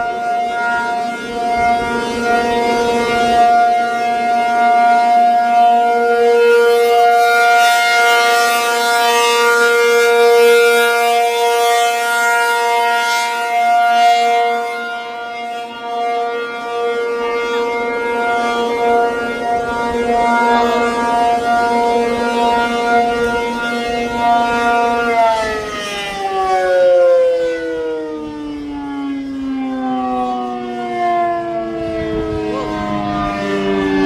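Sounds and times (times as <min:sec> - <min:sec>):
warning siren steady tone: 0:00.0 - 0:34.0.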